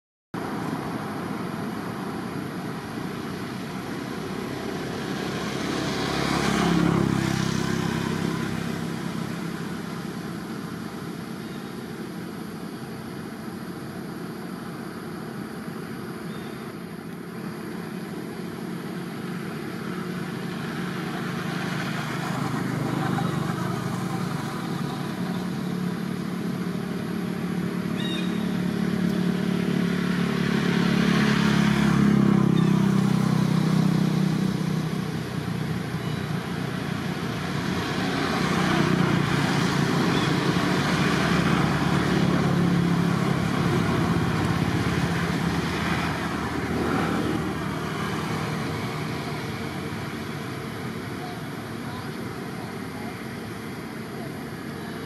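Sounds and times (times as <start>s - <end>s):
traffic hum: 0.4s - 55.0s
vehicles passing: 0.4s - 55.0s.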